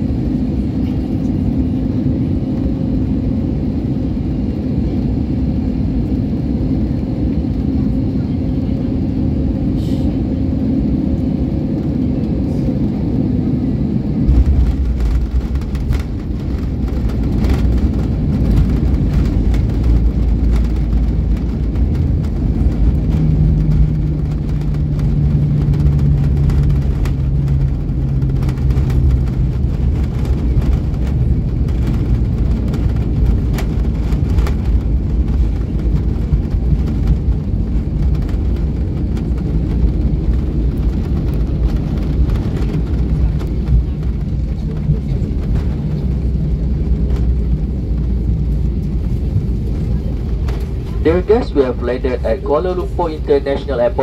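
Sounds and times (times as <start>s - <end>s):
aircraft engine hum: 0.0s - 54.0s
wheels rumbling on runway: 0.0s - 54.0s.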